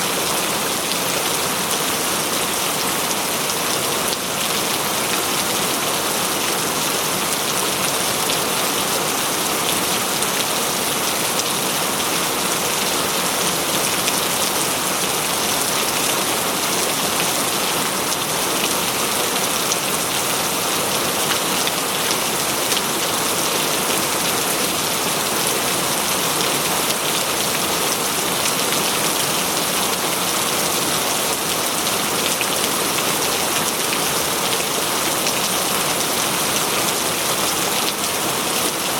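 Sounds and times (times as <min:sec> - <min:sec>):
rain on foliage: 0:00.0 - 0:38.9.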